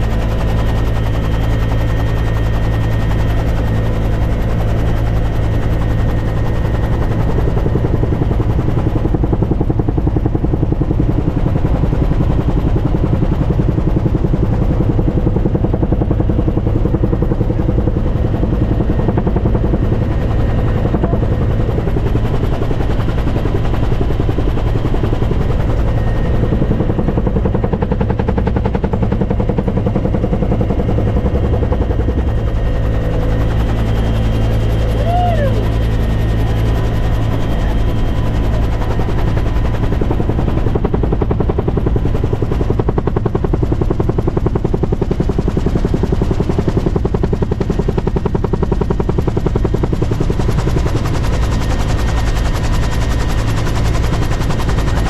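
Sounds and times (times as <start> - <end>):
helicopter engine drone: 0.0 - 55.0
helicopter rotor beating: 0.0 - 55.0.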